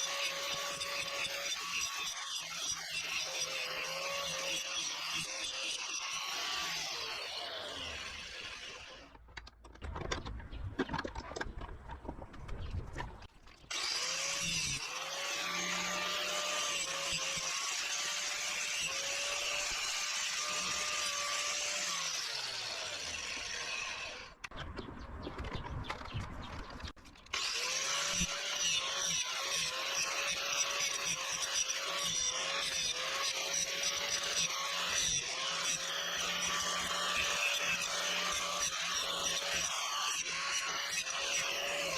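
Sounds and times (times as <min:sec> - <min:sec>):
angle grinder grinding metal: 0:00.0 - 0:09.2, 0:13.7 - 0:24.5, 0:27.2 - 0:41.9.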